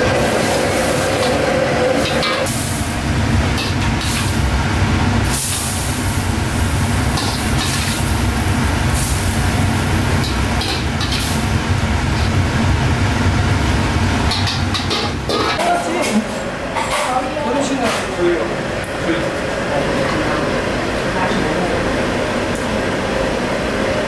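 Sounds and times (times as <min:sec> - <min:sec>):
gas burner rumbling: 0:00.0 - 0:24.0.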